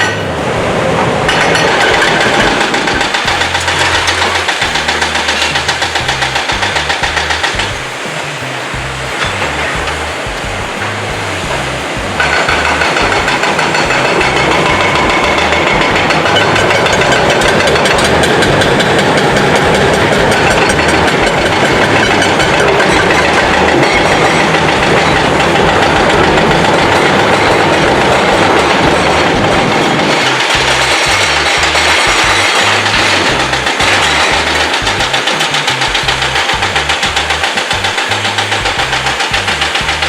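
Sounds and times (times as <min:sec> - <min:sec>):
background music with bass line: 0:00.0 - 0:40.0
construction machinery rattling: 0:00.0 - 0:40.0.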